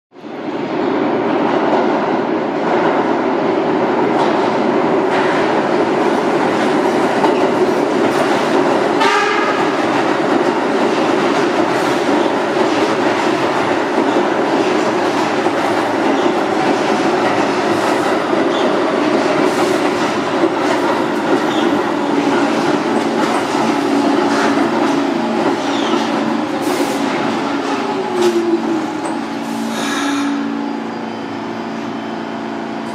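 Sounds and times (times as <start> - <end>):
subway train rumbling: 0.1 - 32.9.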